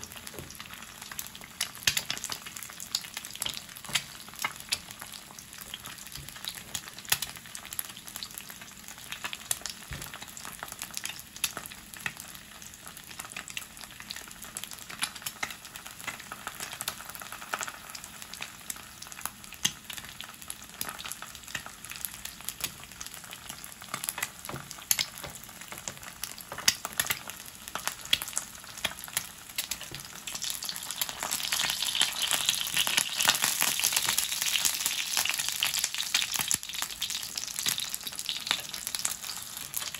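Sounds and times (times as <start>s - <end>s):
egg frying in hot oil: 0.0s - 39.9s.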